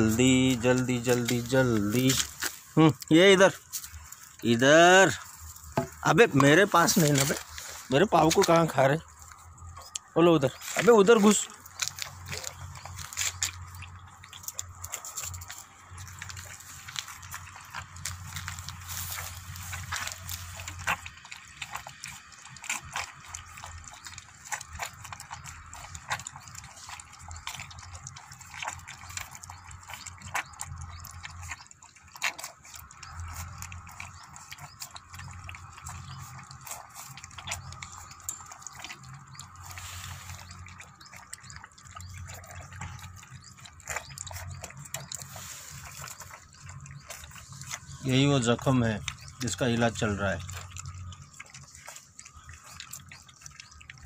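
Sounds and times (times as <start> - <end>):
puppies lapping from metal plate: 0.0 - 54.0.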